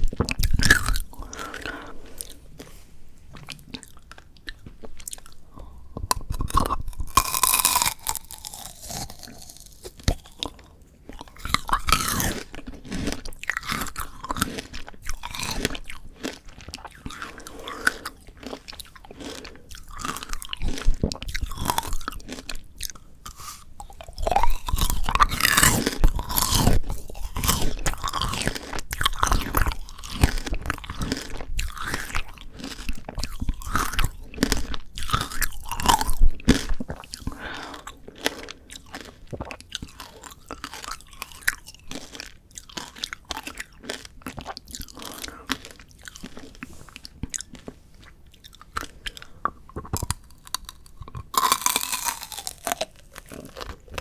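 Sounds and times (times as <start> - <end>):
soft chewing: 0.0 - 54.0
hard candy shell crunching: 3.6 - 47.7, 48.3 - 54.0.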